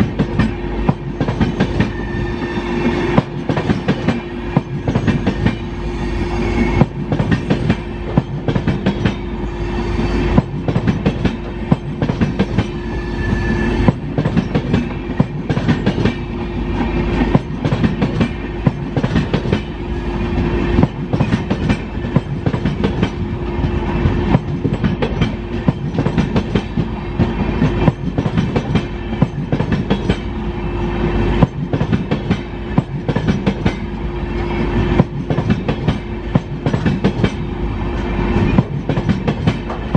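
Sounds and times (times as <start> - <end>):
train wheels clattering: 0.0 - 30.4, 31.0 - 39.9
steady train hum: 0.0 - 39.9.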